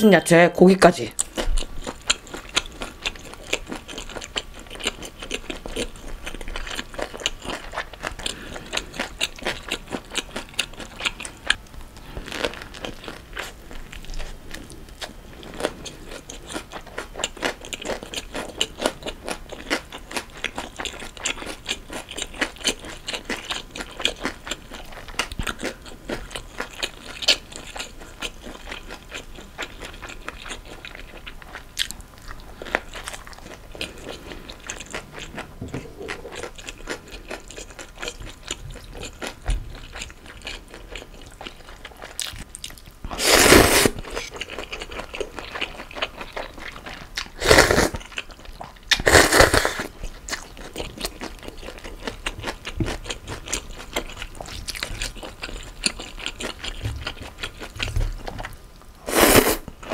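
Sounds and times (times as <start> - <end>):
wet crunchy chewing: 1.2 - 59.9.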